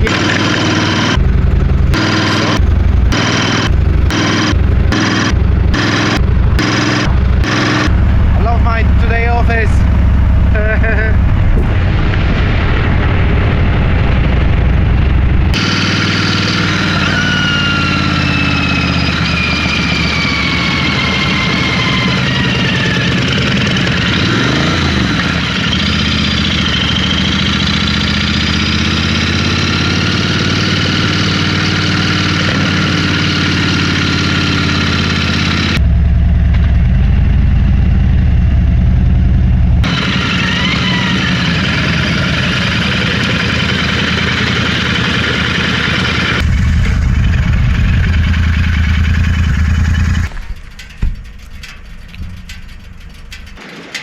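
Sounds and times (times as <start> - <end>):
heavy deep engine drone: 0.0 - 53.7
motorcycle engines running: 0.0 - 54.0.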